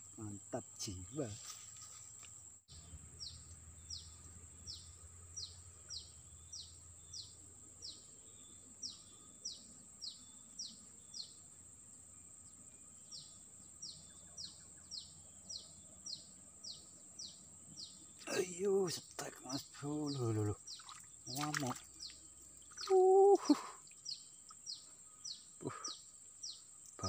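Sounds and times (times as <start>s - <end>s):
bird chirping: 2.7s - 27.0s.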